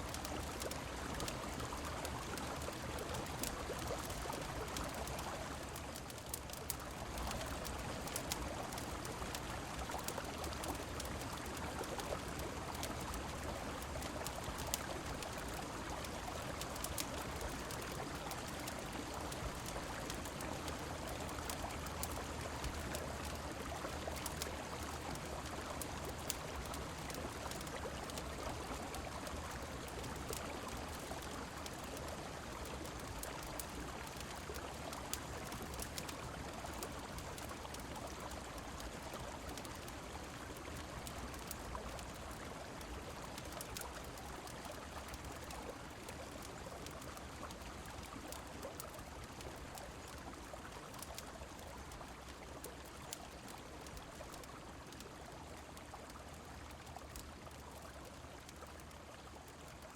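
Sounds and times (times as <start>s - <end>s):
flowing river water: 0.0s - 59.9s
rain: 0.0s - 59.9s
small sharp clicks and pops: 0.0s - 59.9s.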